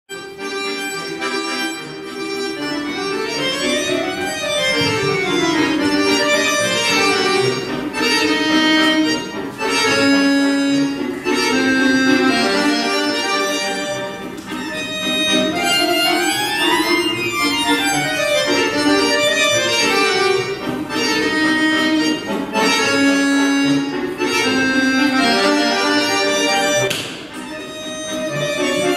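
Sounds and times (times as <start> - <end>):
button accordion playing a waltz: 0.1 - 28.9.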